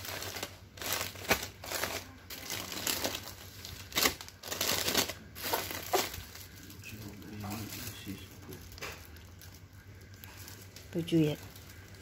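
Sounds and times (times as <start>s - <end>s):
plastic packs crinkling: 0.0s - 12.0s.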